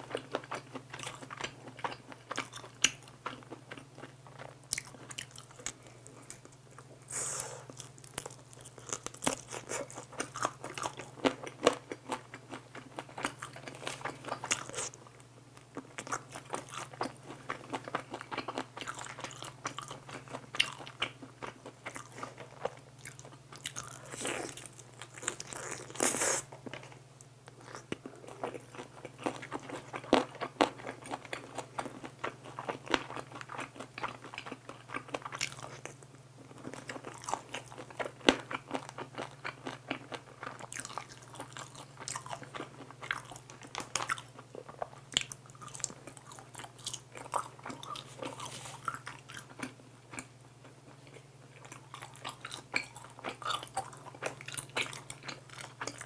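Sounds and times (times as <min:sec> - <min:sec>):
crunching fried chicken: 0:00.0 - 0:06.9, 0:07.6 - 0:56.0.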